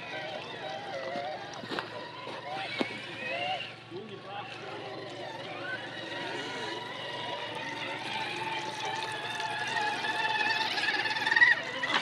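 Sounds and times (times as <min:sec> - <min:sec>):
toy truck electric motor whining: 0:00.0 - 0:12.0.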